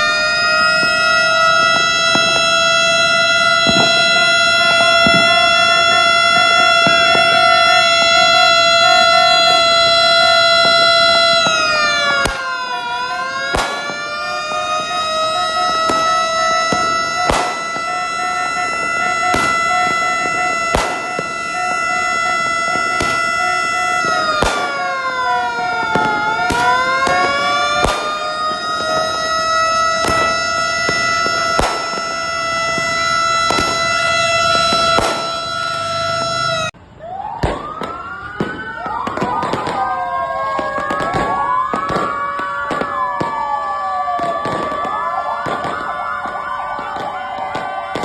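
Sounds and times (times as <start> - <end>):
fire engine sirens: 0.0 - 48.0
firework bangs: 0.0 - 48.0.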